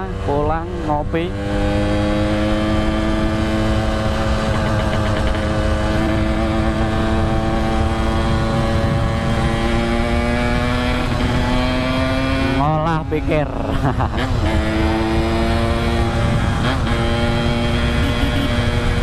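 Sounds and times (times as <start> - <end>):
wind rumble on microphone: 0.0 - 19.0
two-stroke motorcycle engine: 1.3 - 19.0.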